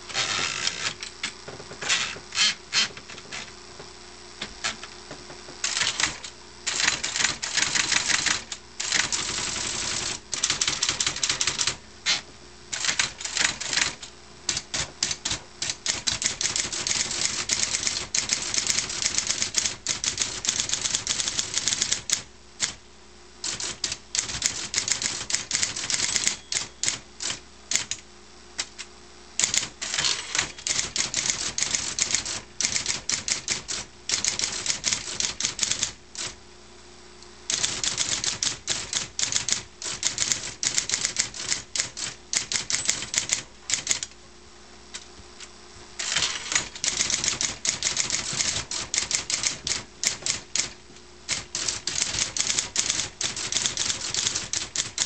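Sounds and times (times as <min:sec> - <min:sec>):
typewriter motor humming: 0:00.0 - 0:03.6, 0:04.4 - 0:22.8, 0:23.4 - 0:28.0, 0:28.6 - 0:36.4, 0:37.5 - 0:44.2, 0:46.0 - 0:55.0
typewriter keystrokes clacking: 0:05.6 - 0:11.8, 0:12.8 - 0:22.8, 0:23.5 - 0:28.0, 0:28.6 - 0:36.4, 0:37.5 - 0:44.1, 0:46.0 - 0:55.0.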